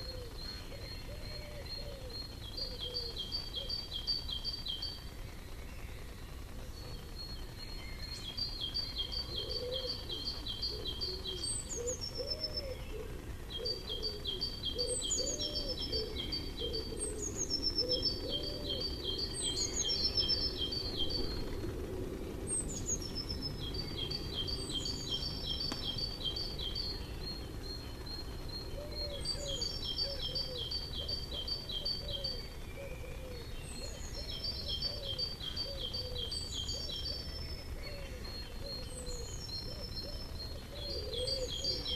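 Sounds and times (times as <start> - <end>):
low bird calls: 0.0 - 41.9
songbird trilling song: 0.0 - 41.9.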